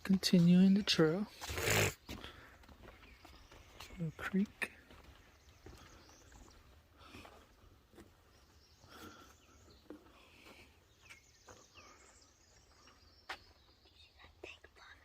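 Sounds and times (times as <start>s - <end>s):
faint bird chirps: 2.9s - 15.0s.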